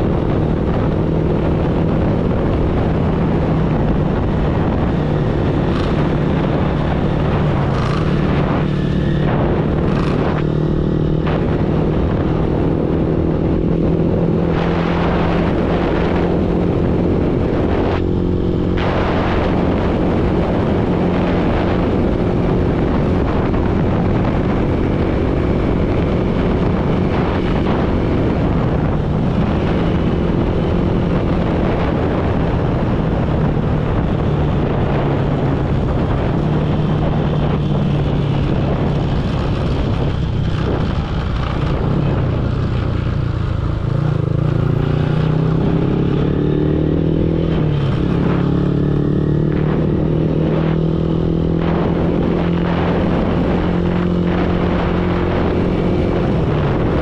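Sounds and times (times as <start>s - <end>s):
motorbike engine running: 0.0s - 57.0s
wind and road noise: 0.0s - 57.0s.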